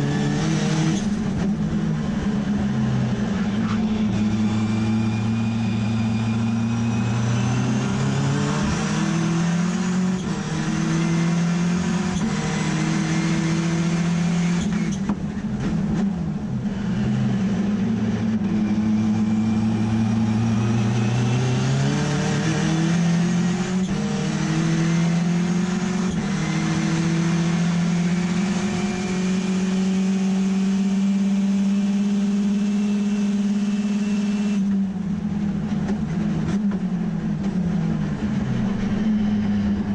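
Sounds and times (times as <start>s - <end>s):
race car rotary engine: 0.0s - 39.9s.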